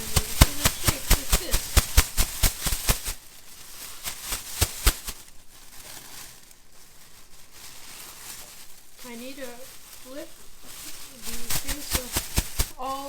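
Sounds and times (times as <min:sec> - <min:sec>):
bag crinkling: 0:00.0 - 0:13.0
donut shaken in a bag: 0:00.0 - 0:13.0.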